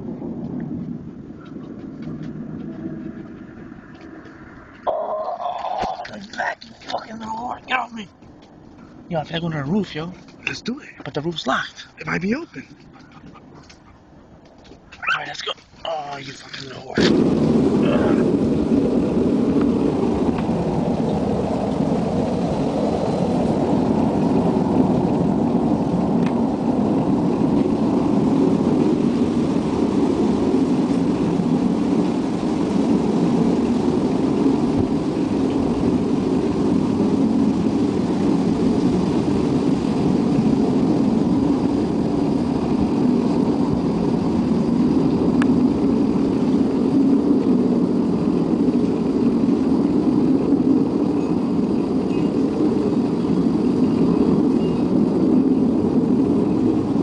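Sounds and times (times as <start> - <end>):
low rumbling drone: 0.0 - 57.0.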